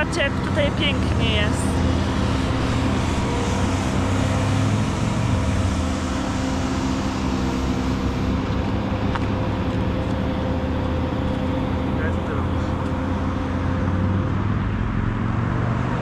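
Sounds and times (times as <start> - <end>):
low engine hum: 0.0 - 16.0
road traffic noise: 0.0 - 16.0.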